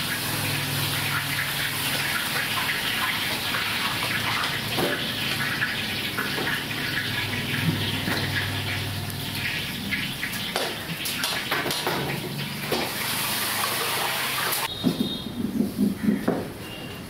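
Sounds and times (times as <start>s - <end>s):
oil sizzling while deep-frying: 0.0s - 14.7s.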